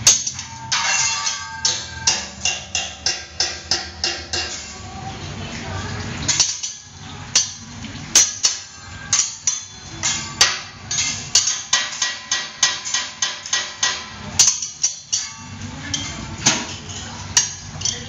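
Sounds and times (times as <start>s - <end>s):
spatulas striking steel griddle: 0.0s - 4.8s, 6.2s - 18.0s.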